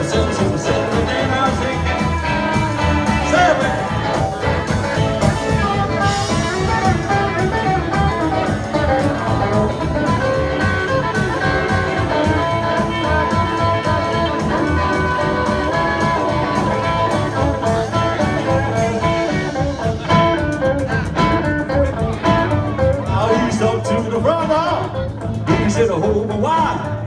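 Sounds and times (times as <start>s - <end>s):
rockabilly band playing live: 0.0s - 27.0s.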